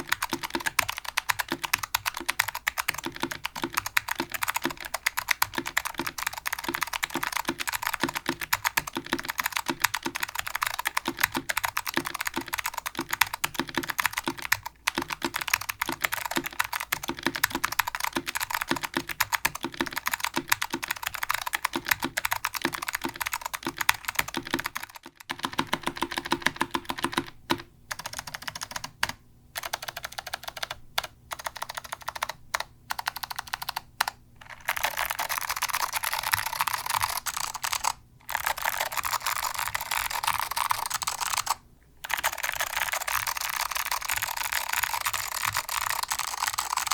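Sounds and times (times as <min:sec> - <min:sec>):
clicky keyboard typing: 0:00.0 - 0:46.9.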